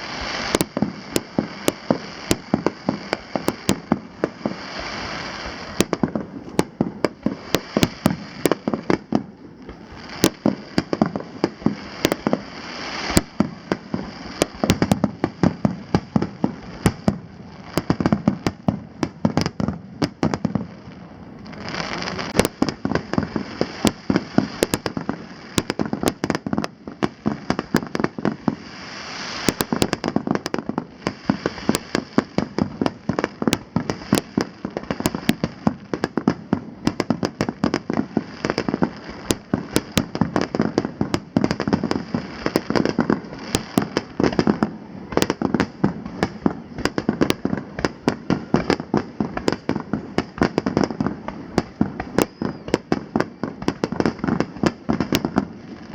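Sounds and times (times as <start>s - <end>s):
fireworks bangs: 0.0s - 55.9s
fireworks crackle and hiss: 0.0s - 55.9s.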